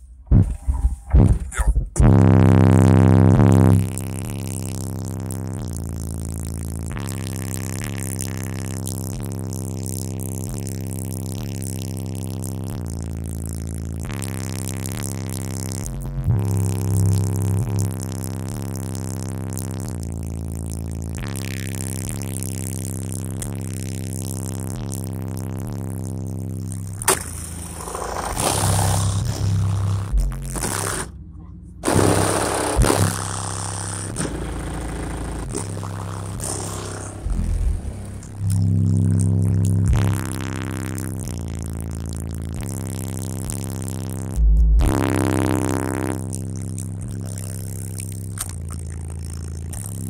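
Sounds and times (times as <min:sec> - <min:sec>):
noise over music: 0:00.0 - 0:50.0.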